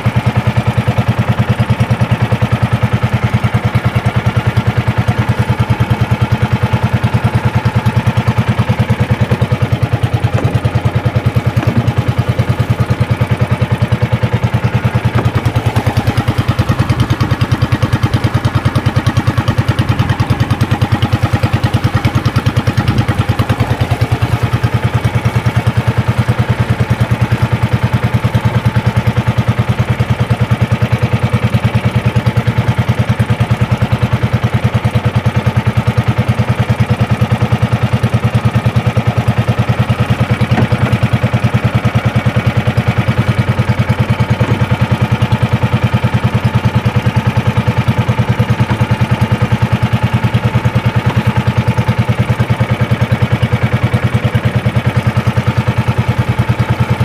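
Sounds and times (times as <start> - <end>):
small boat engine pulsing: 0.0 - 57.0.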